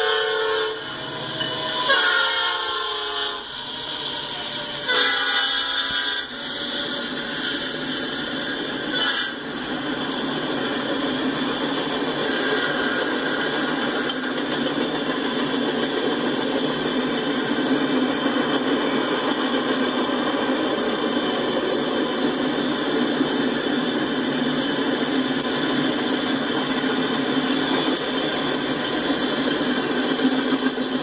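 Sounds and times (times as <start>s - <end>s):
freight cars rolling on rails: 0.0s - 31.0s.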